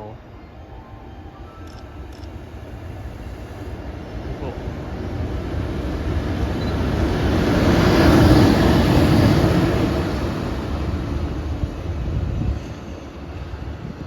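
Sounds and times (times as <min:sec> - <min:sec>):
locomotive rail rumble: 0:00.0 - 0:14.0.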